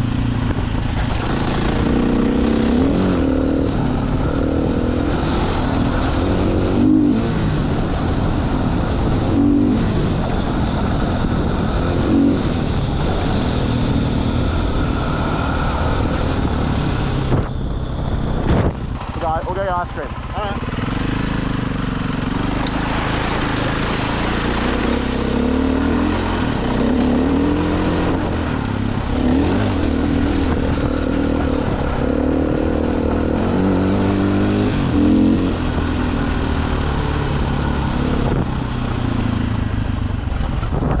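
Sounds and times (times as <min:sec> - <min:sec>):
dirt bike engine revving: 0:00.9 - 0:17.5, 0:18.4 - 0:38.3.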